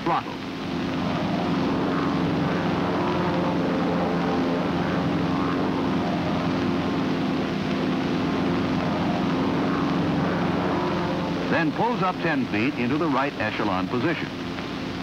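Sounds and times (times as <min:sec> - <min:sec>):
propeller planes droning: 0:00.0 - 0:15.0.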